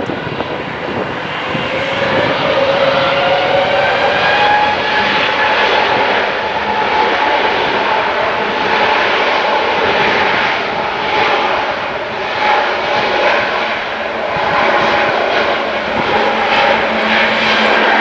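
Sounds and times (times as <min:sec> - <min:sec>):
jet engines roaring and whining: 0:00.0 - 0:18.0.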